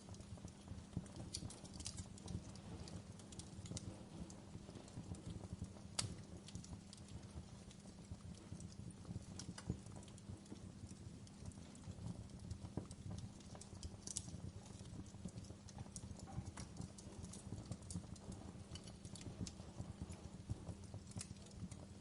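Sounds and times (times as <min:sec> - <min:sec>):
low rumble of flames: 0:00.0 - 0:22.0
wood fire snaps and pops: 0:00.0 - 0:22.0.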